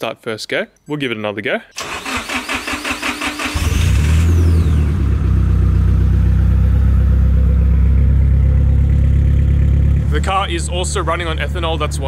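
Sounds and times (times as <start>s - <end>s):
car engine starting and idling: 1.8s - 12.0s.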